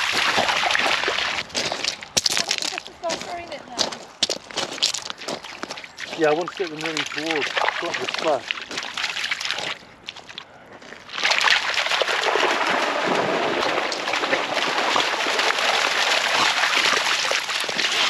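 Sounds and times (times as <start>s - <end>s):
dogs splashing through water: 0.0s - 2.9s, 4.8s - 10.4s, 11.1s - 18.0s.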